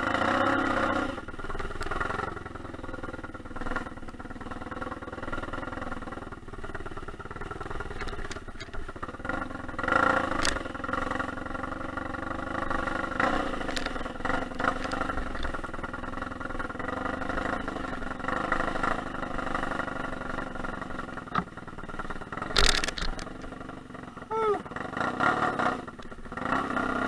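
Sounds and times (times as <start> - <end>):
motorcycle engine revving: 0.0 - 27.0
motorcycle jolting over bumps: 0.0 - 27.0.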